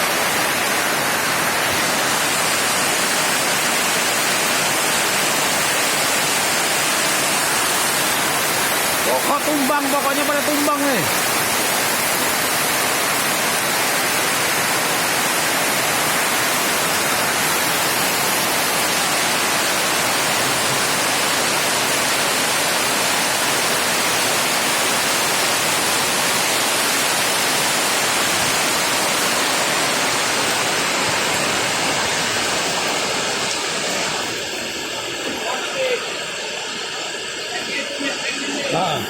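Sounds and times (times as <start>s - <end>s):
heavy rain hiss: 0.0s - 39.0s.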